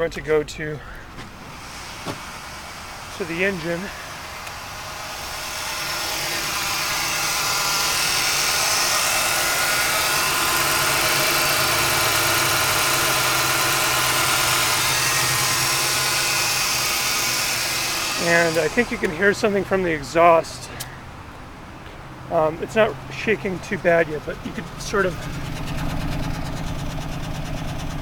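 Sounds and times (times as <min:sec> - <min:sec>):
car engine idling unevenly: 0:00.0 - 0:28.0.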